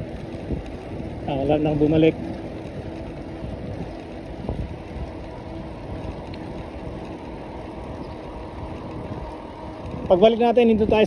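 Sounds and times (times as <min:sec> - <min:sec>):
road rumble: 0:00.0 - 0:11.0
wind buffeting microphone: 0:00.0 - 0:11.0.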